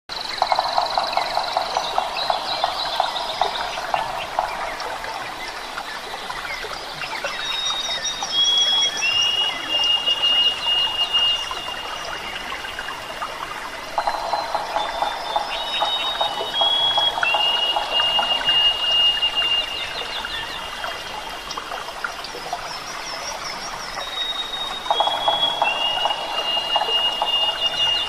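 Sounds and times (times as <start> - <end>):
high insect tones: 0.1 - 6.8, 10.2 - 28.0.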